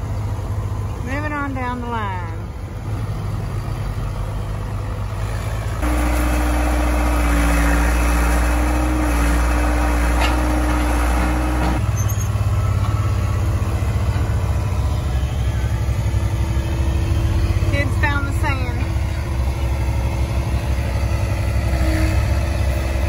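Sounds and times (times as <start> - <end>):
heavy vehicle engines running: 0.0 - 23.0.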